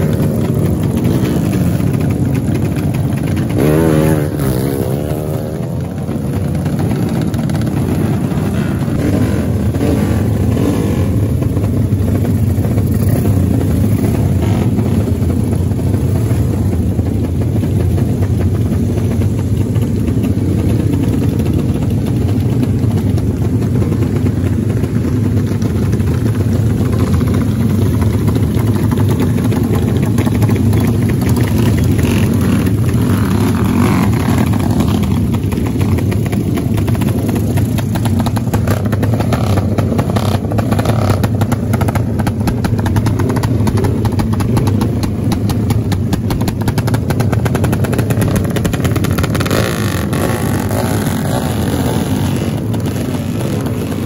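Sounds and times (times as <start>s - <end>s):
motorcycle engines running loud: 0.0s - 54.0s.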